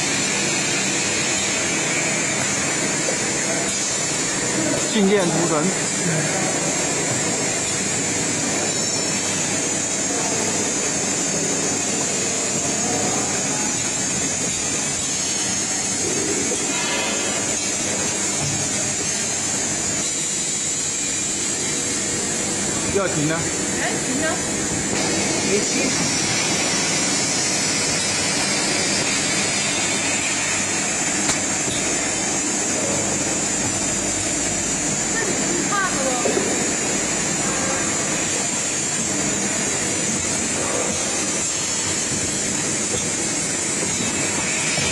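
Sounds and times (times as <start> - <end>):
stamping machine running: 0.0 - 44.9.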